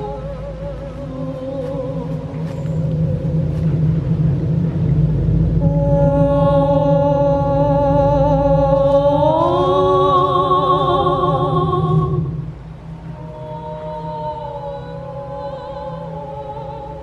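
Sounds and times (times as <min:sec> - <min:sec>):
eerie voice-like held tones: 0:00.0 - 0:17.0
steady low hum: 0:00.0 - 0:17.0.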